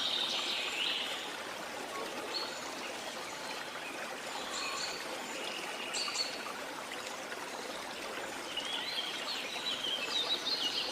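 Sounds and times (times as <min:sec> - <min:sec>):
rushing water: 0:00.0 - 0:10.9.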